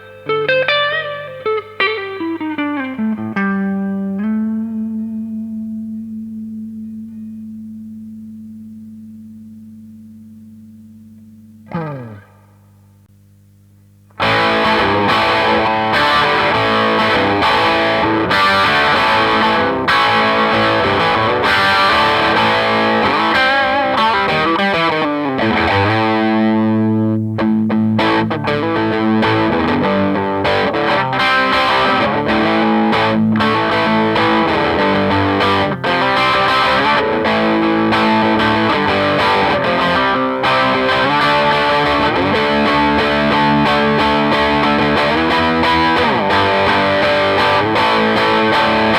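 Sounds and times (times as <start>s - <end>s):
distorted electric guitar: 0.0s - 48.9s.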